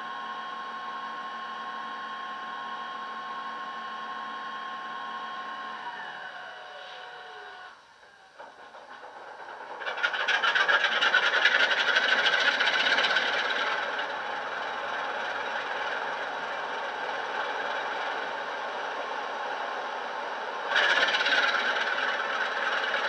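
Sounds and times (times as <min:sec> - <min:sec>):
diesel engine through small speakers: 0:00.0 - 0:23.0.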